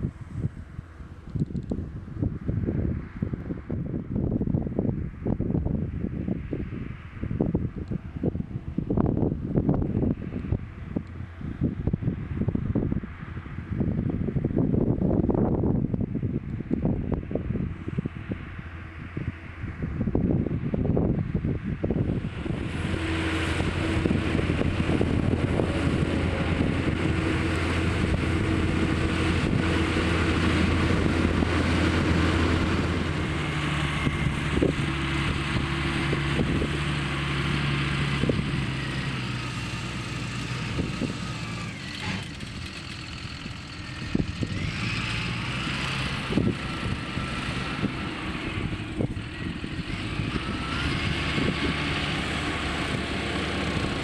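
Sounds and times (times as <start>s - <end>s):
tractor diesel engine running: 0.0s - 4.4s, 7.4s - 54.0s.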